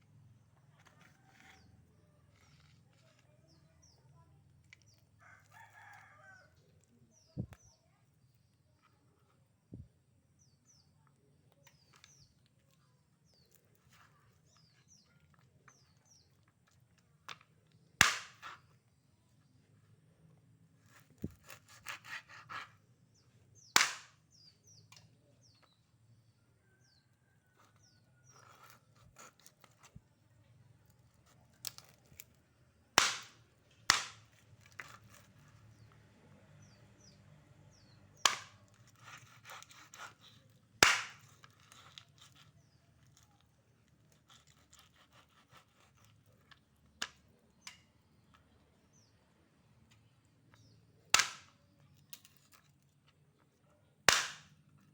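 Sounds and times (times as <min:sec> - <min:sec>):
small birds chirping: 0:00.2 - 0:17.9, 0:23.1 - 0:32.5, 0:34.8 - 0:40.6, 0:41.5 - 0:53.9.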